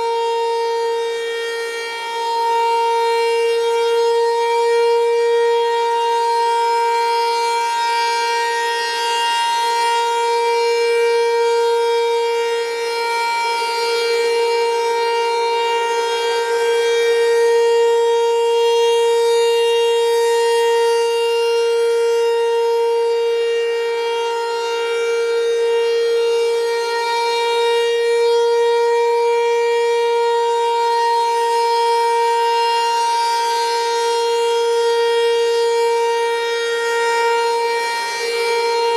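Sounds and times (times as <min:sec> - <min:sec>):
electronic warning siren: 0:00.0 - 0:38.9.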